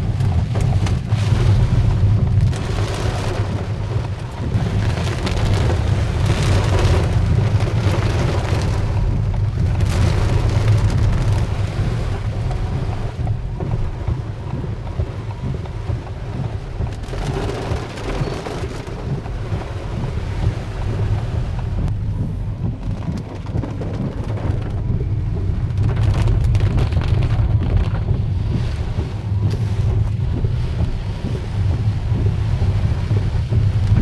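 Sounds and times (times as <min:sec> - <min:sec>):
deep rumble: 0:00.0 - 0:34.0
hailstones ticking: 0:00.0 - 0:34.0
heavy rain downpour: 0:00.0 - 0:34.0.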